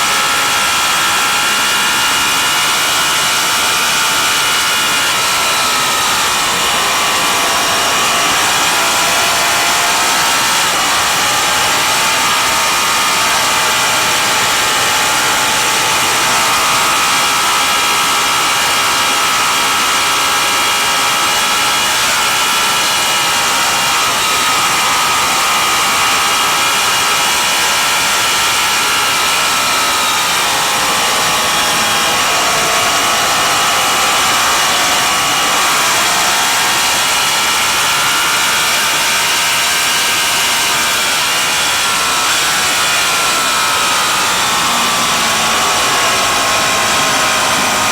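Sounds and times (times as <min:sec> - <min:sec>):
racing motorcycle engine revving: 0:00.0 - 0:47.9.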